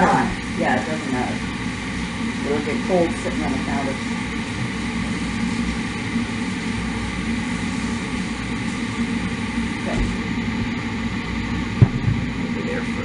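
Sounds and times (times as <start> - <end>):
fan motor whirring: 0.0 - 13.0.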